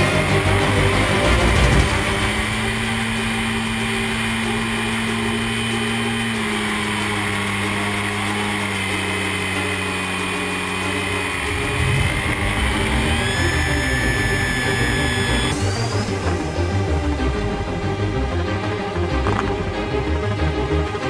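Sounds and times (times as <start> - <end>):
model airplane motor and propeller: 0.0 - 18.1.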